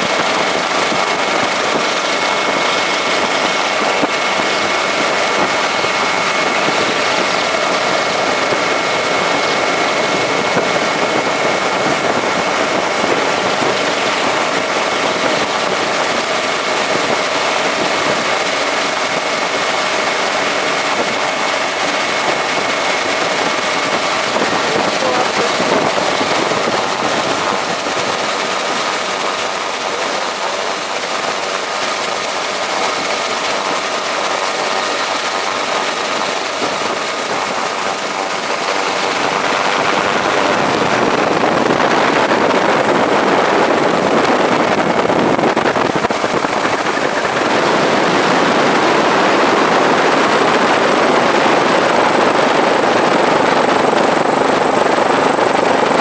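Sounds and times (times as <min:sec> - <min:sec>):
helicopter engine and rotor: 0:00.0 - 0:56.0
high turbine whine: 0:00.0 - 0:56.0.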